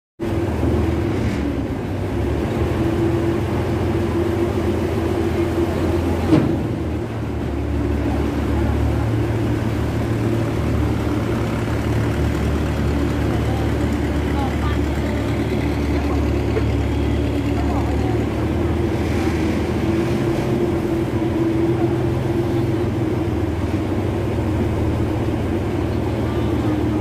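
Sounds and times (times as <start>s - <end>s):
ferry engine droning: 0.2s - 27.0s.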